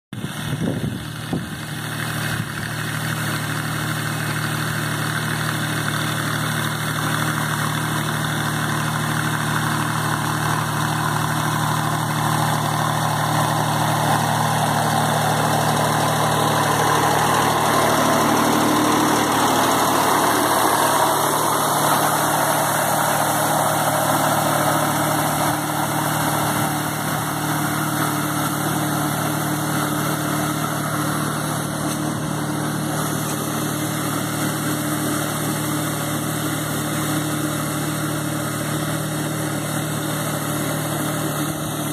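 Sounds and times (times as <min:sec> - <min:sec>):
tractor diesel engine idling: 0:00.1 - 0:41.9.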